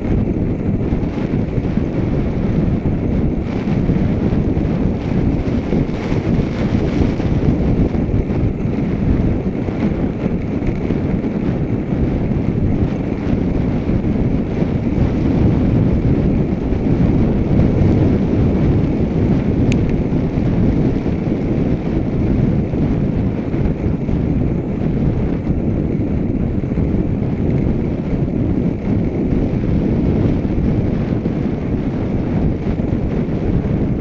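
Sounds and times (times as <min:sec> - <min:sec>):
tyre and road noise: 0:00.0 - 0:34.0
wind rushing over microphone: 0:00.0 - 0:34.0.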